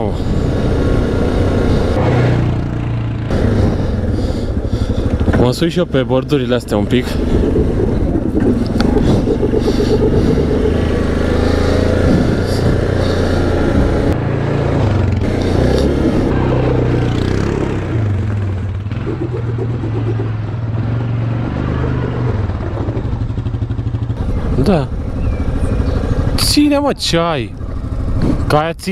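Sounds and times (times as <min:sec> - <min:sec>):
atv engine revving: 0:00.0 - 0:28.9.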